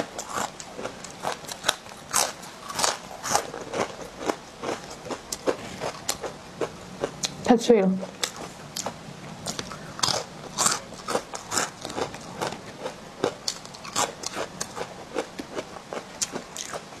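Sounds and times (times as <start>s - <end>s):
crunchy chips being chewed: 0.0s - 7.4s, 8.2s - 17.0s.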